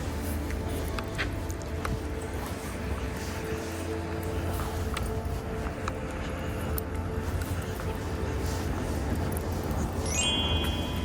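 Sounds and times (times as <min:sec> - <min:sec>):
soft background music: 0:00.0 - 0:11.0
steady low rumble: 0:00.0 - 0:11.0.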